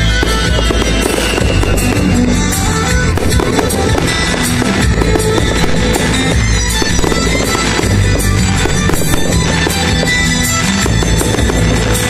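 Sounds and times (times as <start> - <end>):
fireworks bursting and crackling: 0.0 - 12.0
music playing: 0.0 - 12.0.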